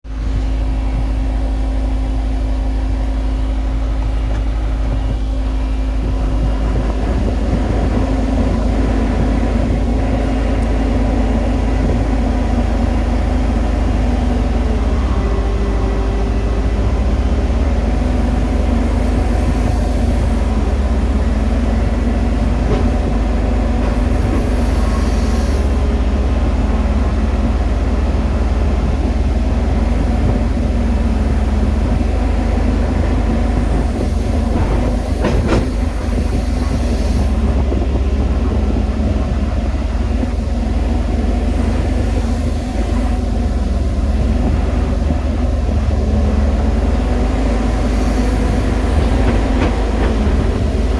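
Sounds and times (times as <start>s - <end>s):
excavator engine rumbling: 0.0s - 50.9s.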